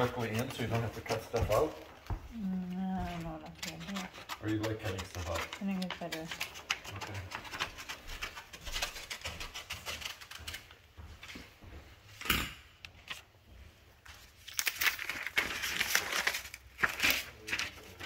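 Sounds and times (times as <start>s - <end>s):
rustling handling sounds: 0.0s - 12.2s, 13.0s - 18.0s.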